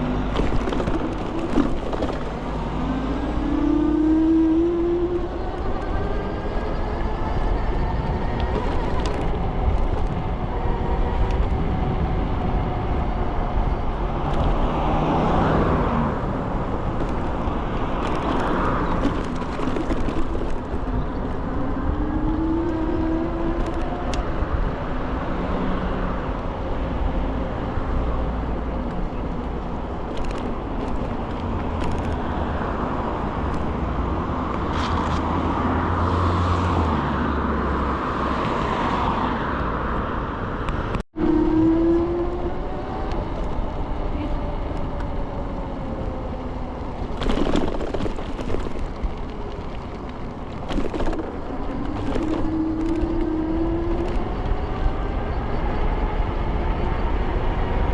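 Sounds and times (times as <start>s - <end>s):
car traffic: 0.0s - 57.9s
wind and road rumble: 0.0s - 57.9s.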